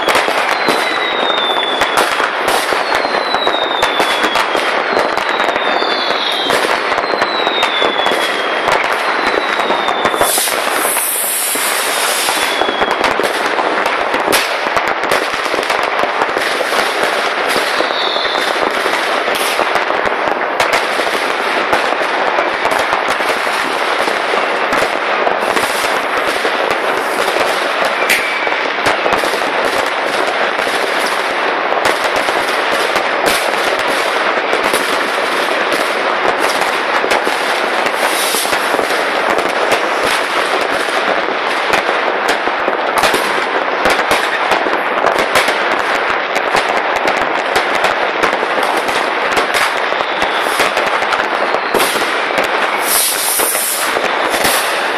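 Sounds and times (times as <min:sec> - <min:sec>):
fireworks crackling and banging: 0:00.0 - 0:54.9.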